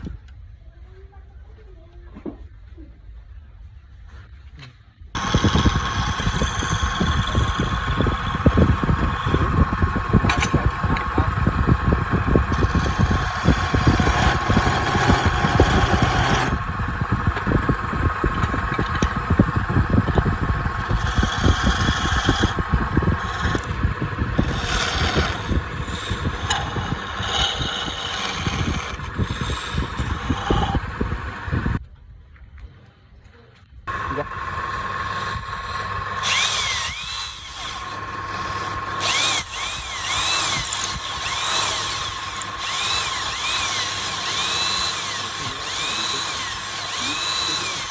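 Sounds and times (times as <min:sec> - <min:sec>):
tool scraping spinning wood: 0:05.2 - 0:31.8, 0:33.9 - 0:47.9
woodturning lathe humming: 0:05.2 - 0:31.8, 0:33.9 - 0:47.9.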